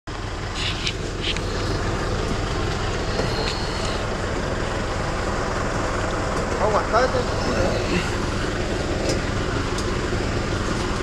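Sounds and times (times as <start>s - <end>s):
vehicle engine humming: 0.1s - 11.0s.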